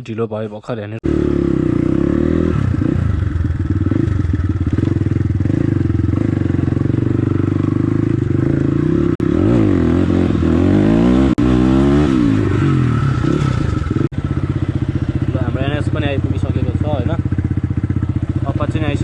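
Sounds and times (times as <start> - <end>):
motorcycle engine revving: 1.0 - 19.0.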